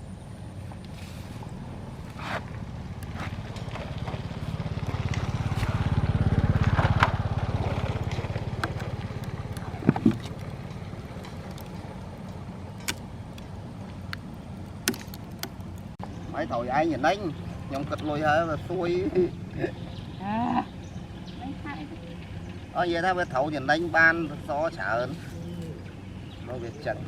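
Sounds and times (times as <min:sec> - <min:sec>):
engine pulsing rumble: 0:00.0 - 0:27.0.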